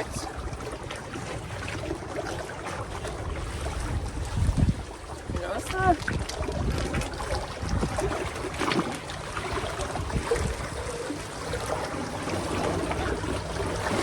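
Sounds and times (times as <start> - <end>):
water lapping at shore: 0.0 - 14.0
wind buffeting microphone: 0.0 - 14.0.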